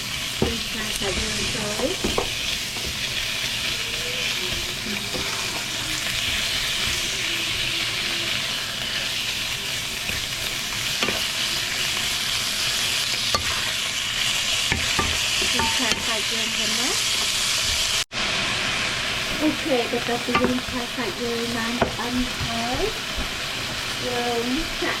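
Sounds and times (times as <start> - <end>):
food sizzling in pan: 0.0 - 25.0.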